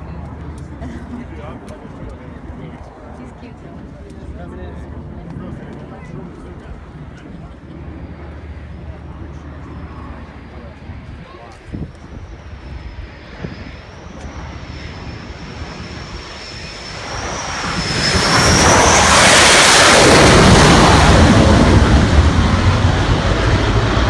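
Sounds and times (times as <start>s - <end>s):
jet aircraft roar: 0.0s - 24.0s.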